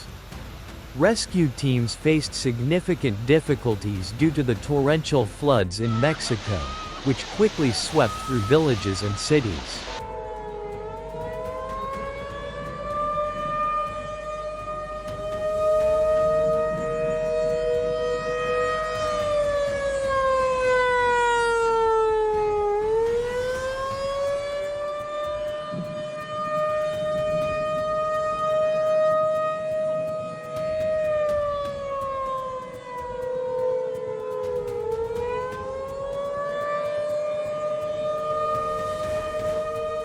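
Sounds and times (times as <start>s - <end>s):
two-tone warning siren: 5.7s - 40.0s.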